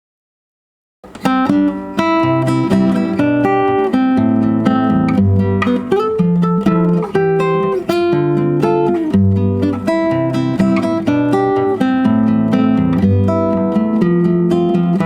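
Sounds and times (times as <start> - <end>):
fingerstyle acoustic guitar: 1.0 - 15.0.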